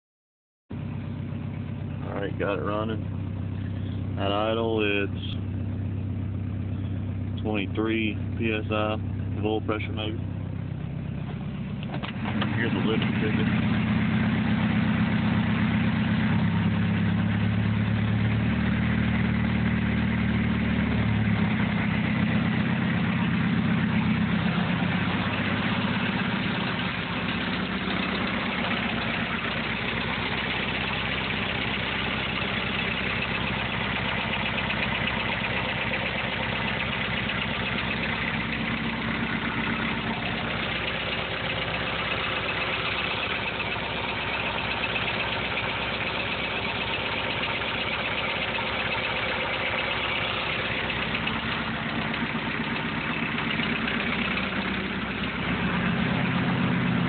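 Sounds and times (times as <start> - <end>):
diesel engine idling: 0.7 - 57.0.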